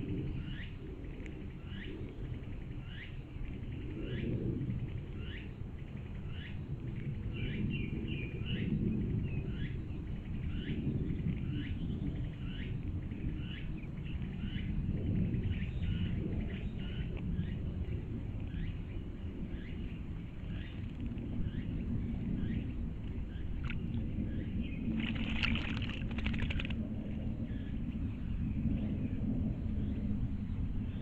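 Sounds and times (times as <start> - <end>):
low uneven rumble: 0.0 - 31.0.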